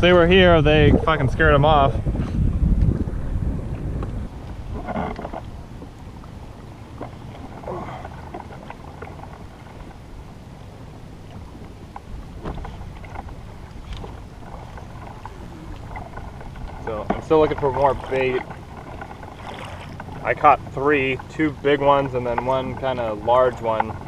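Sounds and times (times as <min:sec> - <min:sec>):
water lapping against a hull: 0:00.0 - 0:24.0
wind rumble on microphone: 0:00.0 - 0:24.0.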